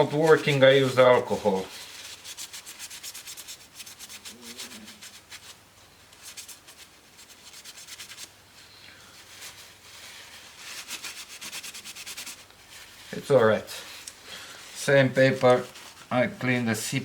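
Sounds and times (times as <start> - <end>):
paper rubbing on metal heatsink: 0.0 - 5.6, 6.2 - 8.4, 9.2 - 17.0.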